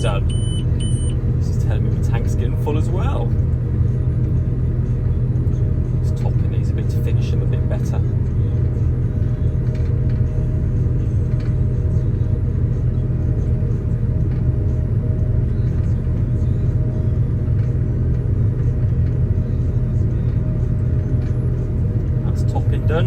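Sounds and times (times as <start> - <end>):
harvester engine drone: 0.0 - 23.0.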